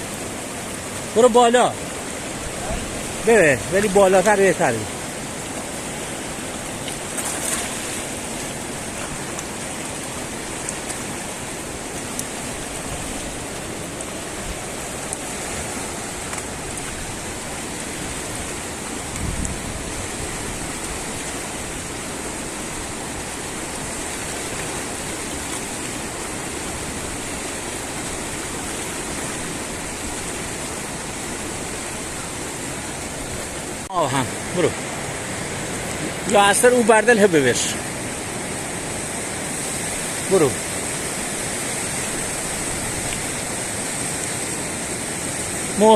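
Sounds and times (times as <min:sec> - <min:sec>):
river current rushing: 0:00.0 - 0:45.9.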